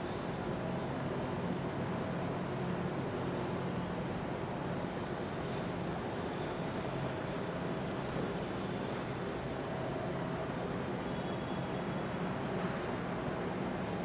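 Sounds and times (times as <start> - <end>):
factory machinery noise: 0.0 - 14.0.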